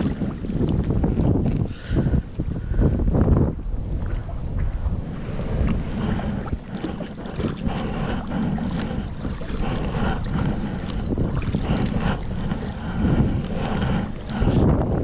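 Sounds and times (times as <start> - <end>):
water splashing around kayak: 0.0 - 15.0
wind buffeting microphone: 0.0 - 15.0.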